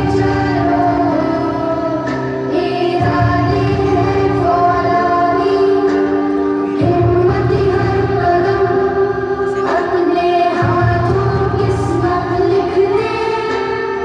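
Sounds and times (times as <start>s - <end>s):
group of voices singing: 0.0s - 14.0s
steady musical accompaniment: 0.0s - 14.0s.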